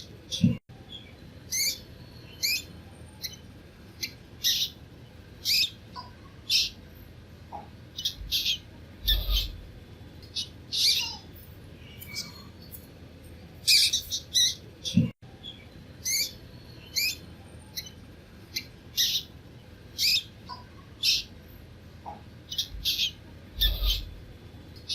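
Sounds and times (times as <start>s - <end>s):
baby mice squeaking: 0.0s - 4.8s, 5.4s - 6.8s, 7.5s - 12.7s, 13.6s - 21.4s, 22.0s - 24.2s.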